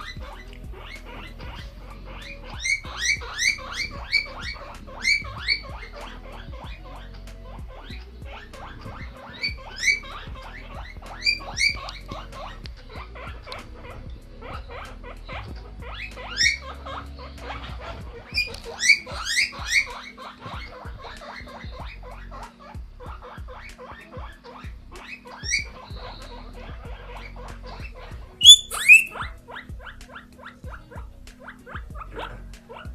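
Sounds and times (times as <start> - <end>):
guinea pig soft squeaks: 0.0 - 32.9
guinea pig wheeking: 0.0 - 32.9.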